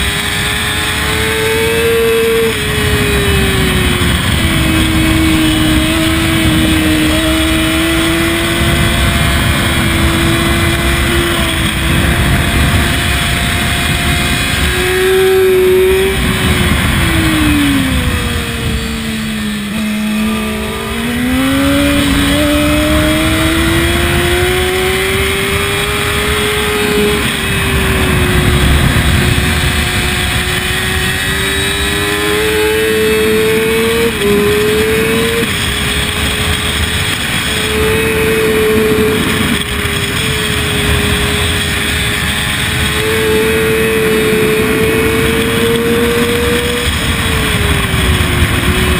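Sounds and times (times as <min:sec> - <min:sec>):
motorcycle engine pulling hard: 0:00.0 - 0:48.9
wind rush: 0:00.0 - 0:48.9.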